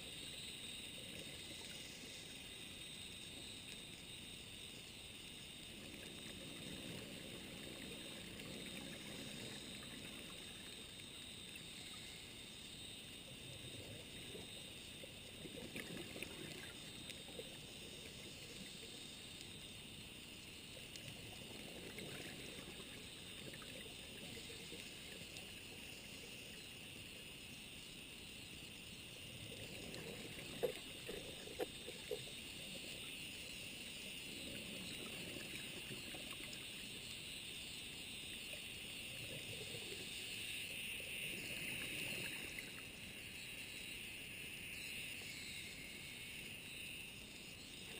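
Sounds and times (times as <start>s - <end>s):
underwater hiss: 0.0s - 47.9s.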